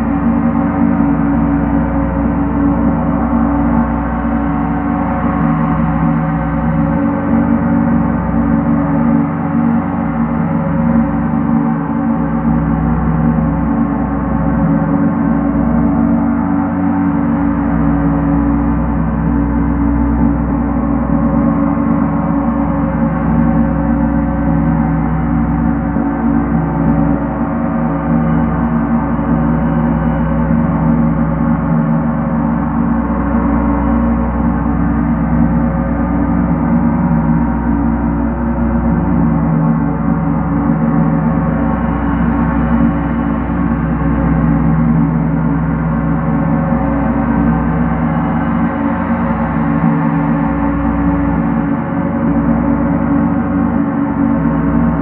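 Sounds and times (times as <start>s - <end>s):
large gong played with mallets: 0.0s - 55.0s.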